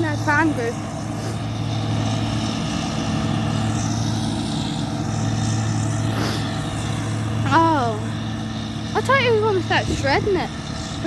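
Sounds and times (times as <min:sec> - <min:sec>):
harvester engine humming: 0:00.0 - 0:11.0.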